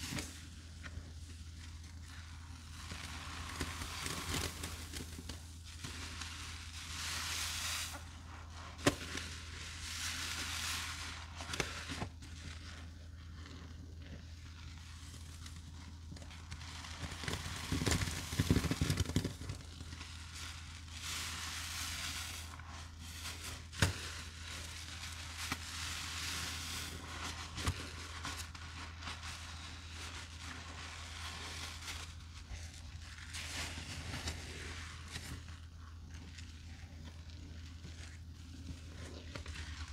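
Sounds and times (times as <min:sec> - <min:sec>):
sponges squishing wet foam: 0:00.0 - 0:39.9.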